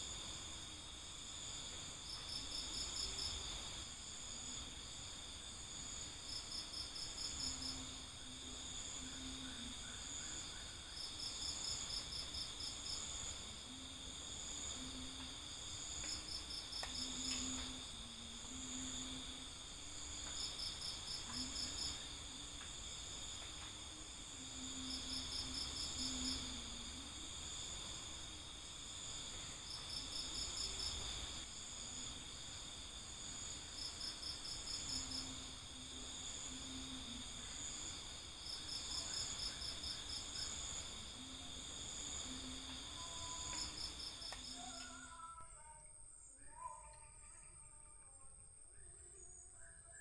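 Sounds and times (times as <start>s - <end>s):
cricket trilling: 0.0s - 50.0s
rapid insect chirps: 0.0s - 50.0s.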